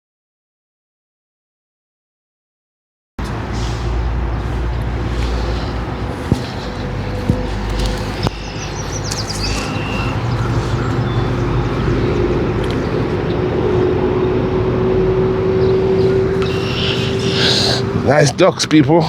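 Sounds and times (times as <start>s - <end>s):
vehicle engine rumbling: 3.2s - 18.7s.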